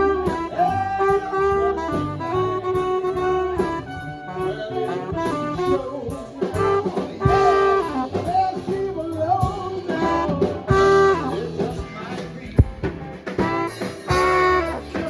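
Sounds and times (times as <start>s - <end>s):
held horn notes: 0.0s - 8.8s, 9.9s - 15.0s
swing band playing: 0.0s - 15.0s.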